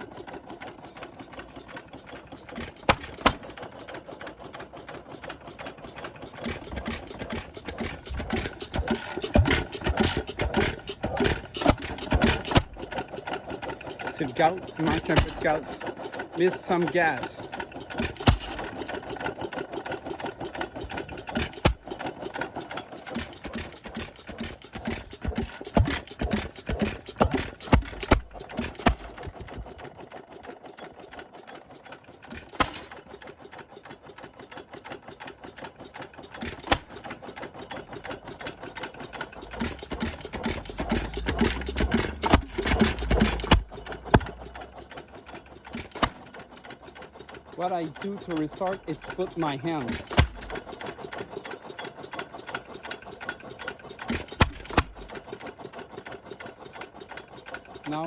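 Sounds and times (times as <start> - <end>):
stationary engine clattering and firing: 0.0 - 58.0.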